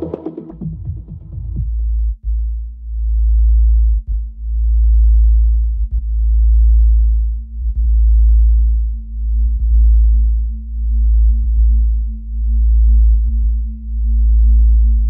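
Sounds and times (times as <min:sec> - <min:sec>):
deep sub-bass tone: 0:00.0 - 0:15.0.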